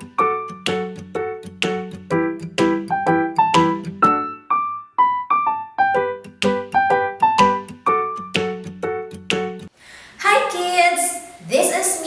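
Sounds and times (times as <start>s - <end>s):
piano chords with melody: 0.0s - 9.7s.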